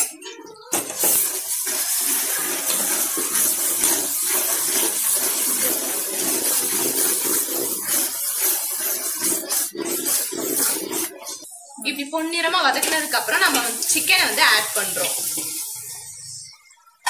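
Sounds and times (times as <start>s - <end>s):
onions sizzling in oil: 0.7s - 16.6s.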